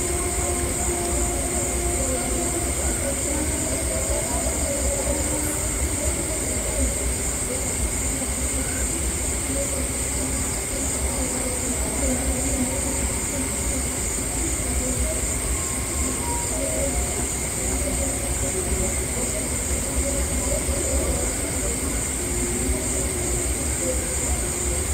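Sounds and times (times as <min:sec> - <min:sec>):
high-pitched insect drone: 0:00.0 - 0:24.9.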